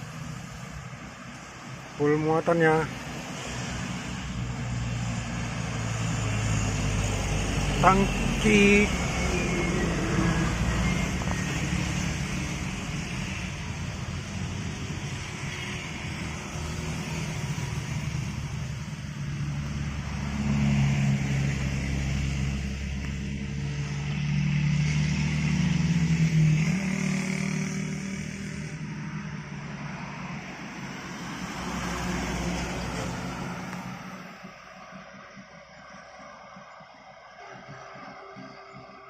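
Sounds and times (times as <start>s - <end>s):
truck diesel engines under load: 0.0s - 39.0s.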